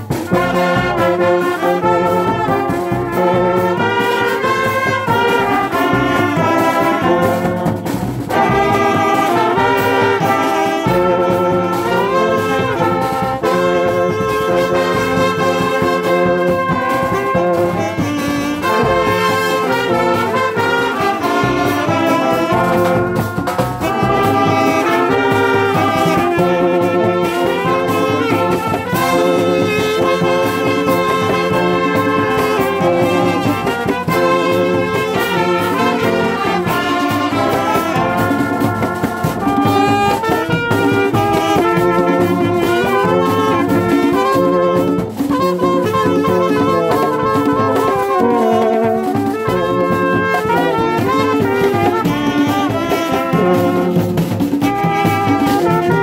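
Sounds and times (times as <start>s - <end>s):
hand-played barrel drums: 0.0s - 56.0s
trumpets and trombones playing chords: 0.0s - 56.0s.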